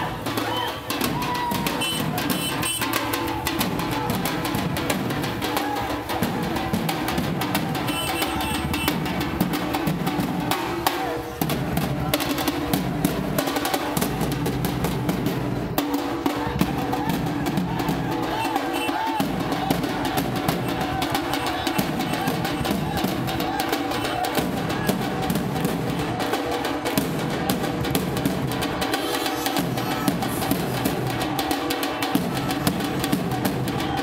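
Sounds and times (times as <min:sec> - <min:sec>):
music with rapid drumming: 0:00.0 - 0:34.0.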